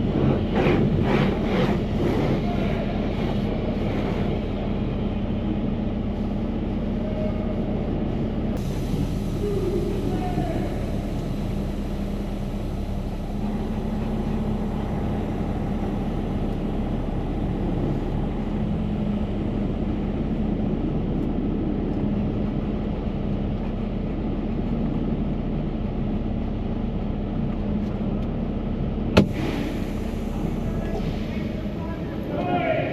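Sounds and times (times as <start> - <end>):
truck wash rumble and hiss: 0.0 - 32.9
diesel engine idling: 2.8 - 32.9.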